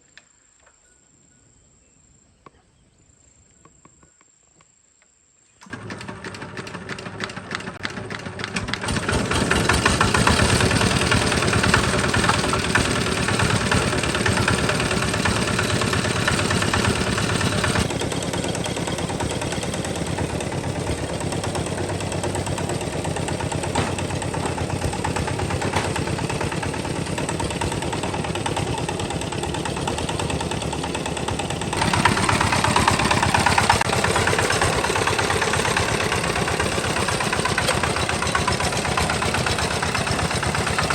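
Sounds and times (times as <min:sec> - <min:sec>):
tractor engine chugging: 0:05.6 - 0:40.9.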